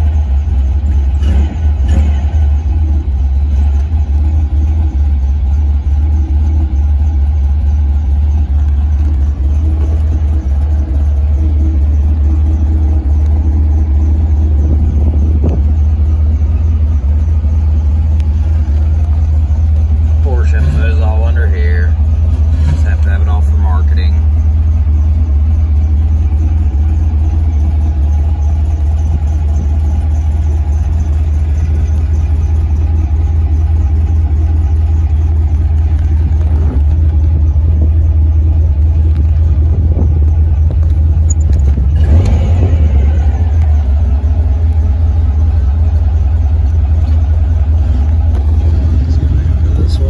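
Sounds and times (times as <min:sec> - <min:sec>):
car engine rumbling: 0:00.0 - 0:50.0.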